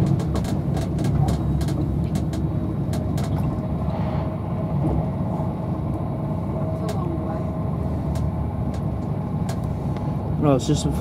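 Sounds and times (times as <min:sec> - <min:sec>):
electric train running at speed: 0:00.0 - 0:11.0.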